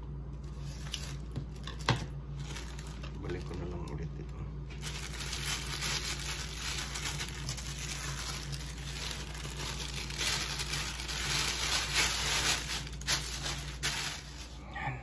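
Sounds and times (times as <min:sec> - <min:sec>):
plastic bag crinkling: 0:00.4 - 0:14.6.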